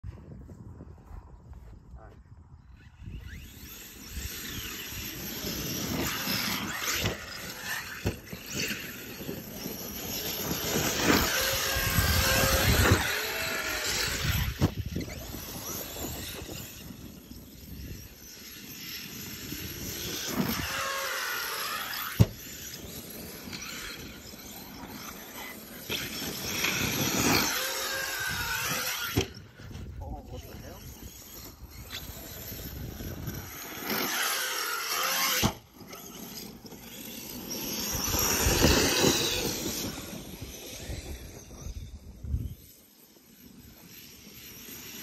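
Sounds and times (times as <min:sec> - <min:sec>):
electric motors whining: 0:02.7 - 0:45.0.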